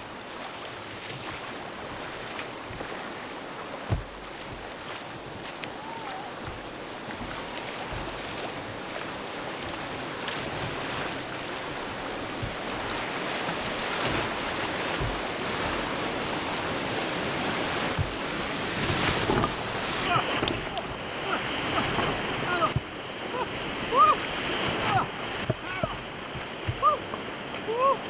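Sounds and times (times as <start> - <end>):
rushing river whitewater: 0.0 - 28.0
water splashing over kayak: 0.0 - 28.0.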